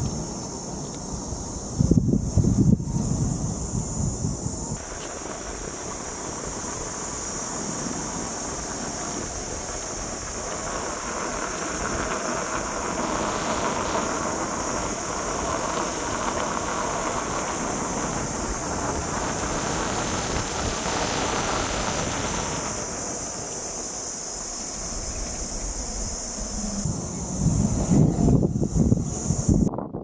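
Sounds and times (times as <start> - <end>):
high-pitched hiss: 0.0 - 29.9
wind rushing over microphone: 0.0 - 30.0
tyre rumble on paved road: 4.8 - 29.5.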